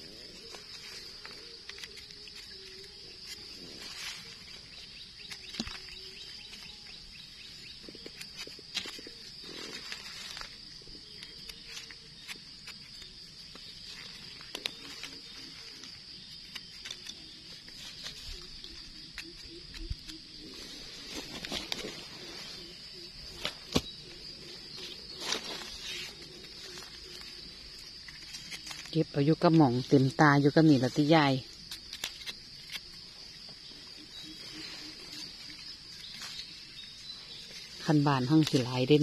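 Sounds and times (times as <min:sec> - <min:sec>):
dry leaves crackling: 0:00.0 - 0:33.0, 0:33.8 - 0:39.0
high-pitched insect drone: 0:00.0 - 0:39.0.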